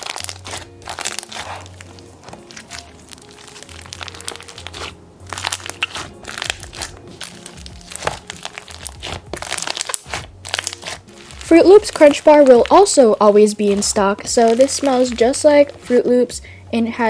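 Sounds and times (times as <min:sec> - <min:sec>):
crunchy slime crackling: 0:00.0 - 0:16.4
background music: 0:00.0 - 0:17.0.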